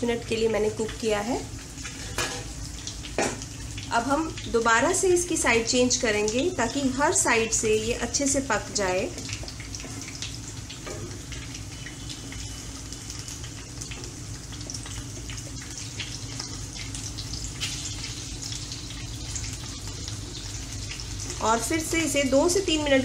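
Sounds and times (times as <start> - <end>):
vegetables sizzling in hot oil: 0.0 - 23.0.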